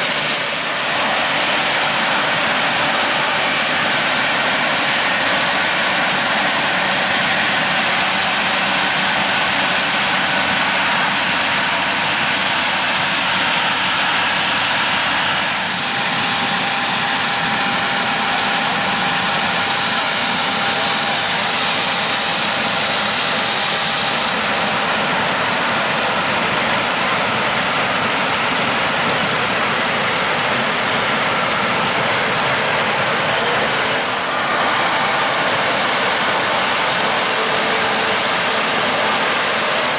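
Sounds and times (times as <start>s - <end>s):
combine harvester machinery drone: 0.0s - 39.9s.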